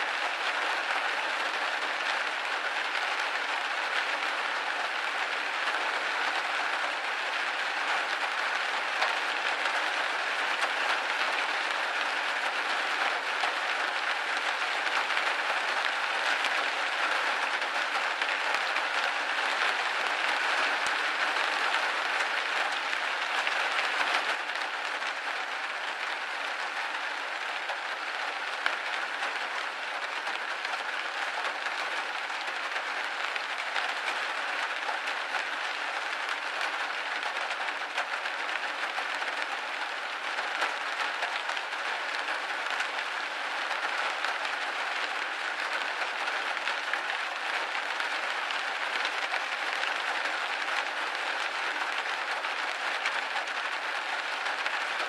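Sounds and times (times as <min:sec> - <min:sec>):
rain on a window pane: 0:00.0 - 0:55.0.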